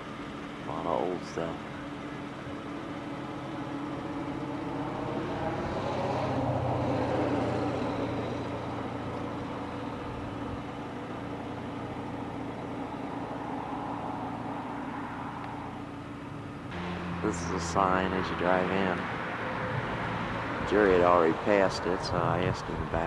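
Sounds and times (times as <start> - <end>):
car engine running: 0.0 - 23.0
road noise inside car: 0.0 - 23.0.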